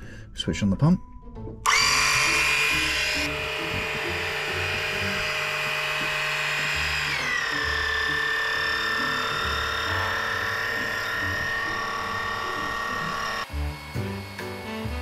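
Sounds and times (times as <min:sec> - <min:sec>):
electric oil pump whining: 0:01.6 - 0:15.0.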